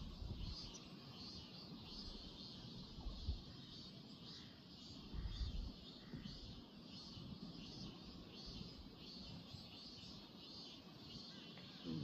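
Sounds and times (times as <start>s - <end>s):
high chorus of insects: 0.0s - 12.0s.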